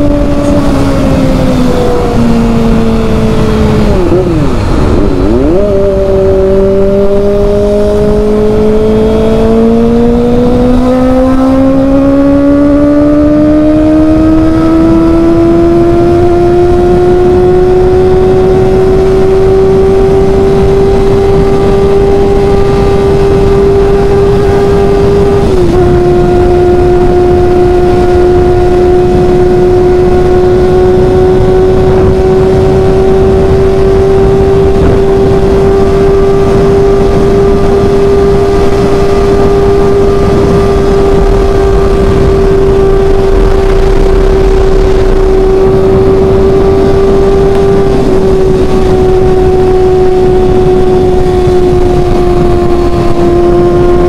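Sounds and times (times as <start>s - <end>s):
motorcycle engine whining: 0.0s - 54.0s
wind rush: 0.0s - 54.0s.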